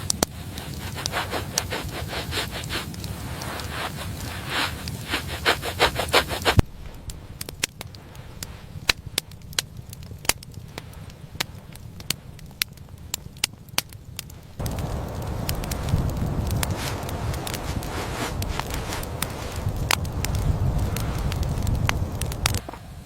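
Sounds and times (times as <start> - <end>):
rhythmic crunching scrapes: 0.0 - 22.9
rustling noise: 0.0 - 23.0
wood fire crackling: 0.0 - 23.0.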